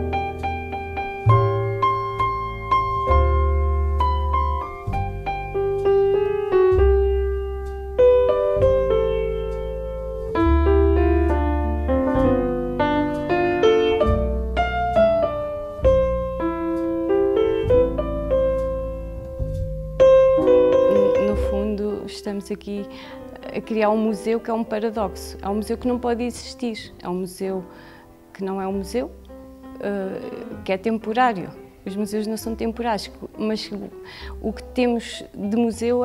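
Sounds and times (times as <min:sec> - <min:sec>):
piano melody: 0:00.0 - 0:36.0.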